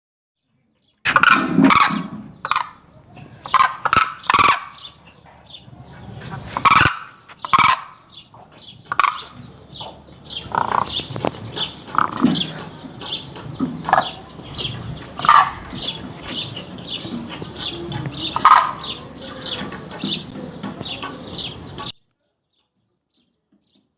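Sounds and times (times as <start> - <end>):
crane giving harsh calls: 1.1 - 21.9.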